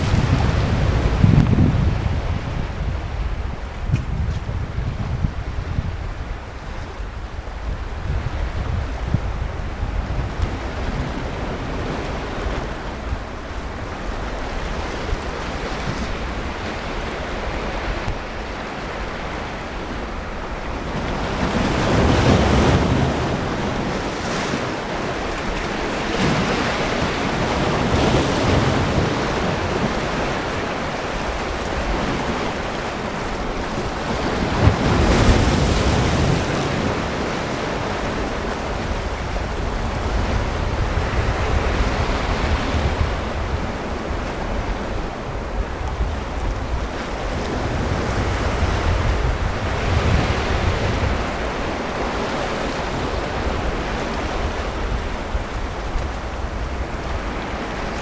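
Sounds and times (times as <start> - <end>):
sea waves breaking on a beach: 0.0 - 58.0
wind noise on microphone: 0.0 - 58.0.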